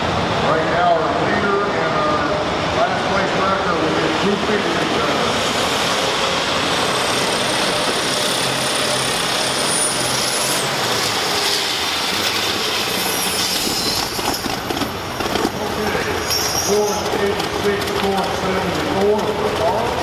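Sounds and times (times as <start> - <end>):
tractor engine roaring: 0.0 - 20.0.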